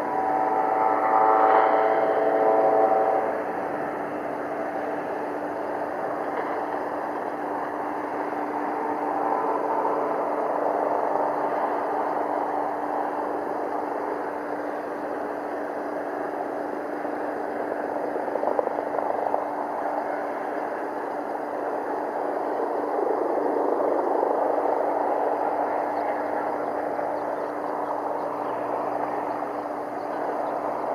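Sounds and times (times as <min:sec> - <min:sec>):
distant propeller plane drone: 0:00.0 - 0:30.9.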